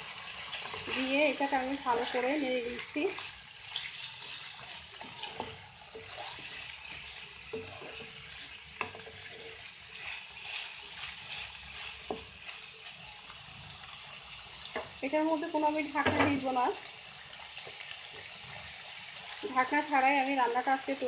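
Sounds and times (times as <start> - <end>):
food sizzling in oil: 0.0 - 21.0
spatula stirring in a pan: 0.0 - 21.0.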